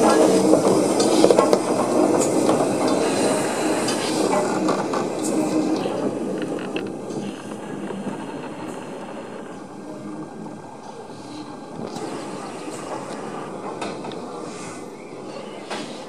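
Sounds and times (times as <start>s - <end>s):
steam locomotive rolling along track: 0.0s - 16.0s.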